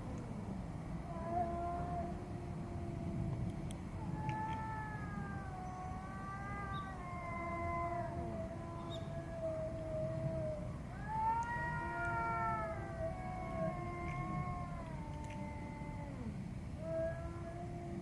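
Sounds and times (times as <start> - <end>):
cats yowling: 1.1 - 18.0.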